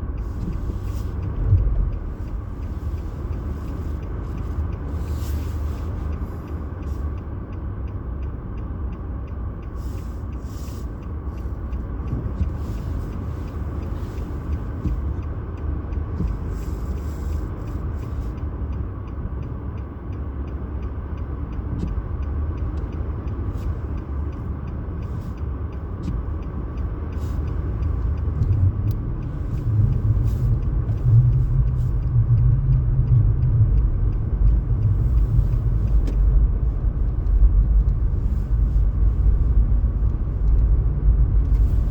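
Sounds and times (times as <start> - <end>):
vehicle rumbling: 0.0 - 41.9.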